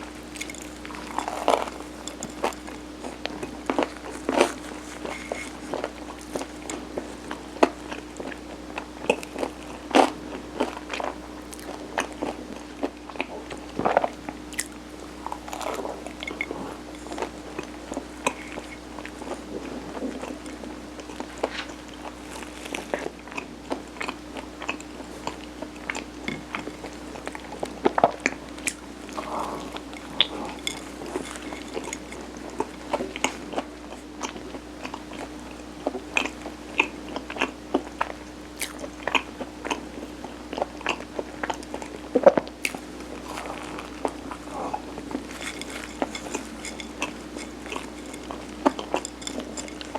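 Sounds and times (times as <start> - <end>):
biting and chewing: 0.0 - 39.9, 40.5 - 49.9.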